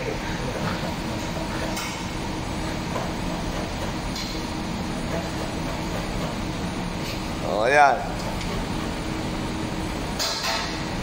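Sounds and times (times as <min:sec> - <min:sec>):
ship machinery and ventilation hum: 0:00.0 - 0:11.0.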